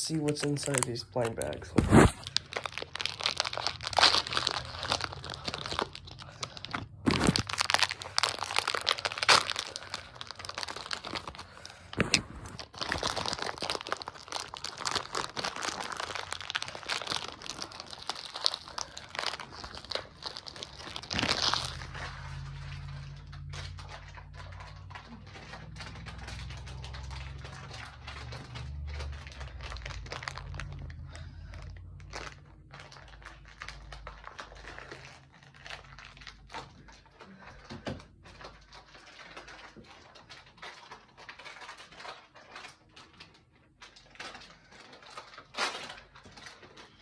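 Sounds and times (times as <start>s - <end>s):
foil packets crinkling: 0.0s - 47.0s.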